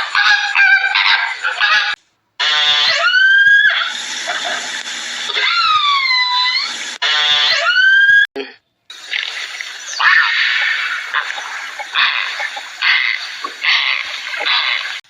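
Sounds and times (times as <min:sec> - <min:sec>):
high drawn-out animal calls: 0:00.0 - 0:04.6, 0:05.3 - 0:08.3, 0:09.3 - 0:15.0.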